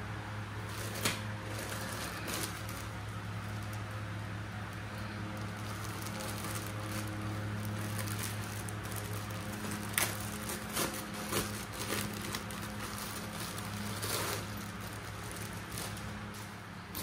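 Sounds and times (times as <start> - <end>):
steady low hum: 0.0 - 17.0
plastic bag crinkling: 0.6 - 16.6.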